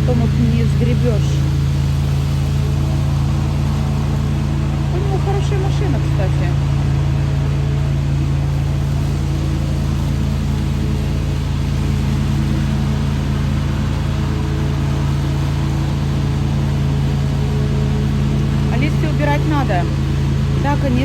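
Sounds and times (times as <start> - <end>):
riding mower engine droning: 0.0 - 21.0.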